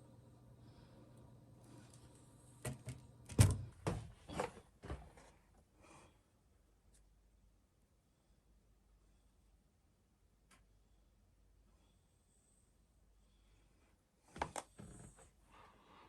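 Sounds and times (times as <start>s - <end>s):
low steady hum: 0.0s - 14.3s.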